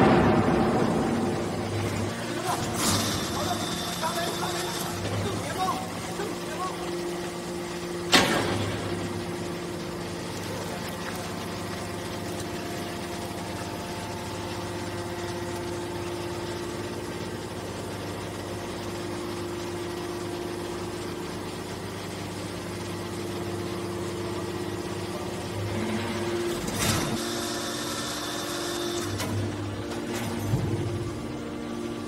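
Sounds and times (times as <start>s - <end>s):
hydraulic unit hum and whine: 0.0s - 32.0s.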